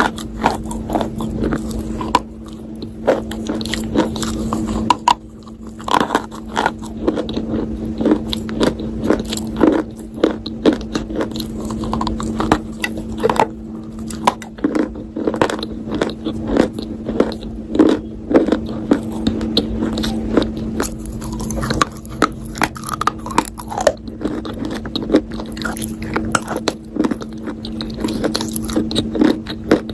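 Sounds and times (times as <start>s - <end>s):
crunching and chewing: 0.0s - 29.9s
steady low hum: 0.0s - 29.9s.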